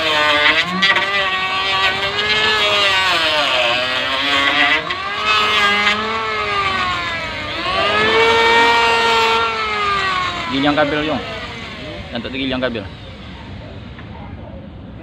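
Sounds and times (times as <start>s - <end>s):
electric planer shaving wood: 0.0s - 13.8s.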